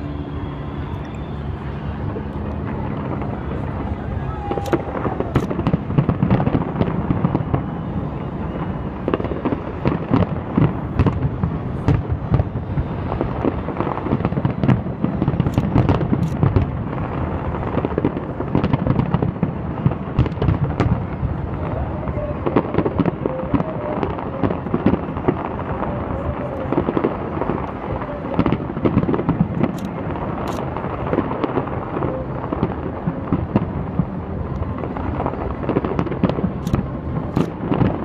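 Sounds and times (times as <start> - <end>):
fireworks bursting with bangs: 0.0 - 38.0
low rumble: 0.0 - 38.0.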